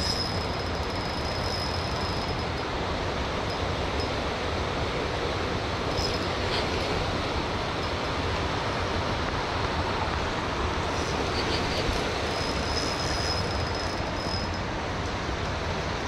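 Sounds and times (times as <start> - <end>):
faint high whine: 0.0 - 8.0, 8.6 - 16.0.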